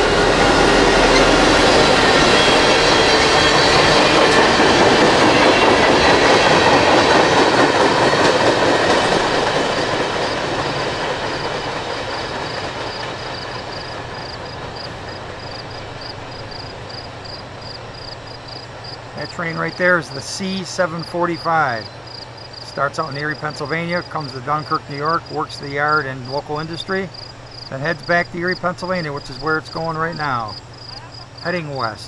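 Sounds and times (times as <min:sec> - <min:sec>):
crickets chirping: 0:00.0 - 0:32.0
freight train cars rolling: 0:00.0 - 0:32.0.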